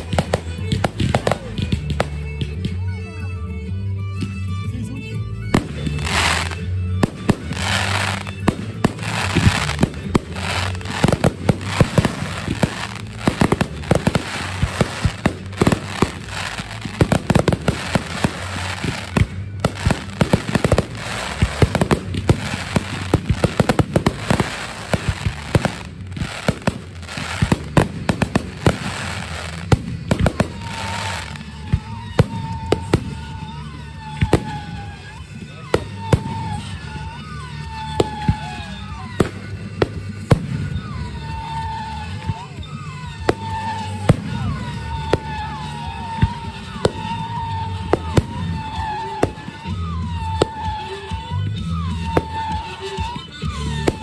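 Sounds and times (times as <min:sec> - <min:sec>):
firework bursts and crackling: 0:00.0 - 0:02.6, 0:05.5 - 0:54.0
music playing: 0:00.0 - 0:54.0.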